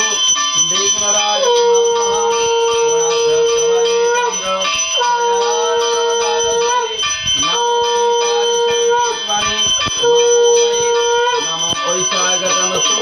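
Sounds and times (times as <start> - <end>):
hand bell ringing: 0.0 - 13.0
long steady held tone: 0.0 - 13.0.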